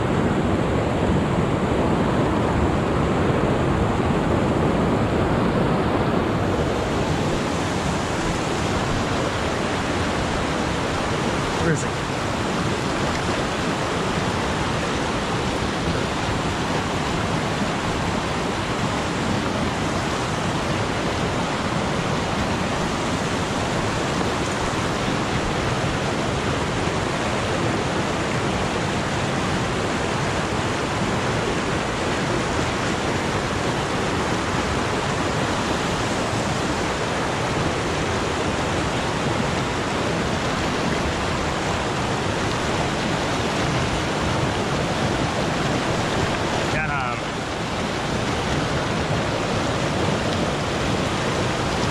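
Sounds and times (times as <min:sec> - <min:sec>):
creek rushing over rocks: 0:00.0 - 0:51.9.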